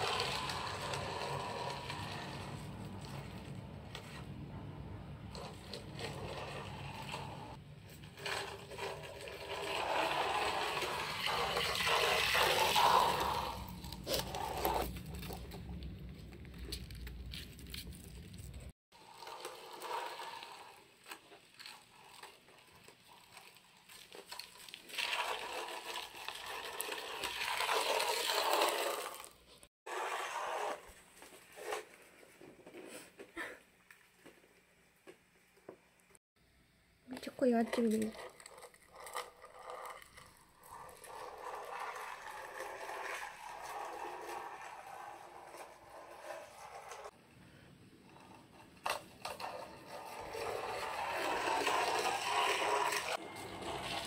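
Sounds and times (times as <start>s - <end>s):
toy skateboard rolling on wooden floor: 0.0s - 33.3s, 37.1s - 47.2s, 47.9s - 54.0s.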